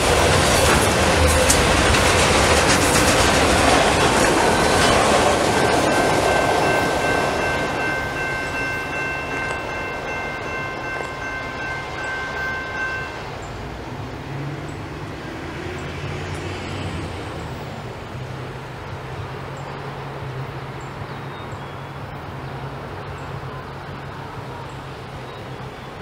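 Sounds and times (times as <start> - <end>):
freight train rumbling: 0.0 - 26.0.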